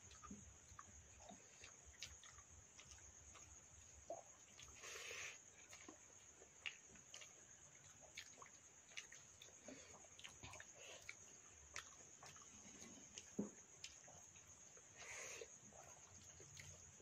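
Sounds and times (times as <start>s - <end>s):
quiet chewing: 0.0s - 17.0s
steady high-pitched hiss: 0.0s - 17.0s.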